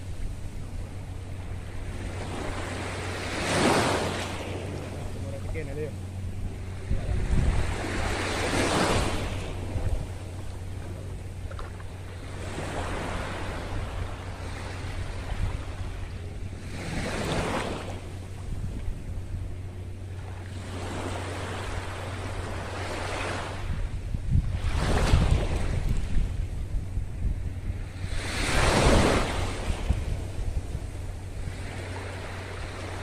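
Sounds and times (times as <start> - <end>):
small waves washing on beach: 0.0 - 19.1, 20.1 - 23.9, 24.5 - 26.4, 27.7 - 33.0
wind rumbling on microphone: 0.0 - 33.0.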